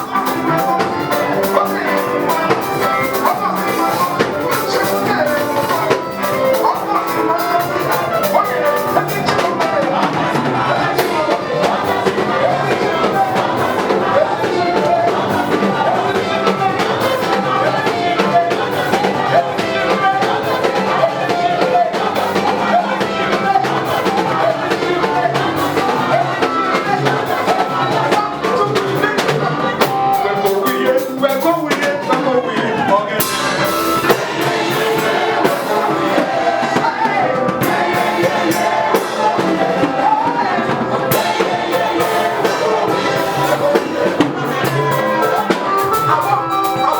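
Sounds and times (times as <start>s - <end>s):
drum kit playing: 0.0s - 46.9s
live gospel band music: 0.0s - 46.9s.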